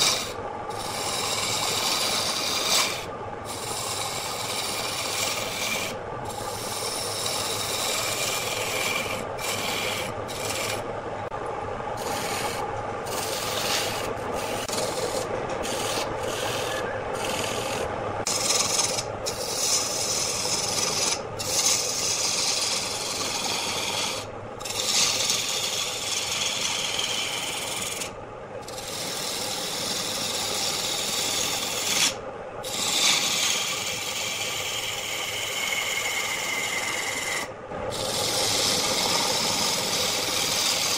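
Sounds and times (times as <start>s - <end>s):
lathe tool scraping wood: 0.0s - 10.9s, 12.0s - 40.9s.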